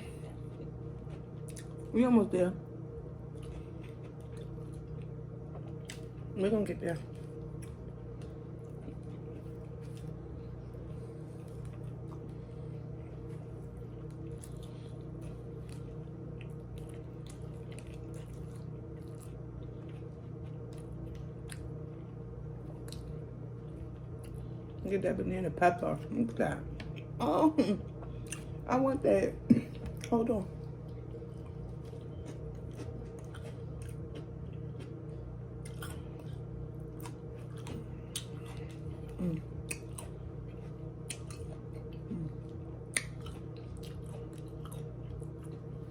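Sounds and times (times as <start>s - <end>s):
person chewing: 0.0s - 1.9s, 3.3s - 6.3s, 7.2s - 24.5s, 27.8s - 28.6s, 30.8s - 45.9s
low hum: 0.0s - 45.9s.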